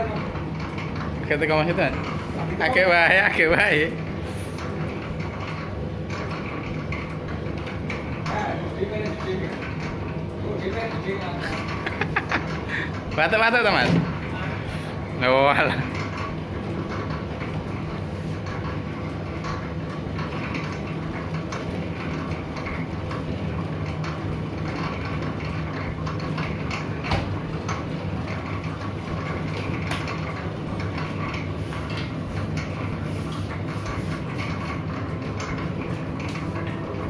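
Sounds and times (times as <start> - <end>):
noodle machine humming and rattling: 0.0 - 37.0.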